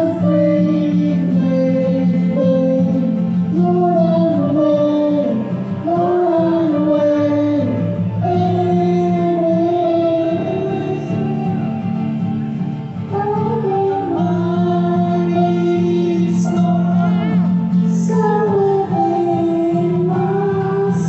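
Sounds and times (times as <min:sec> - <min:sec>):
acoustic guitar: 0:00.0 - 0:21.0
electric keyboard: 0:00.0 - 0:21.0.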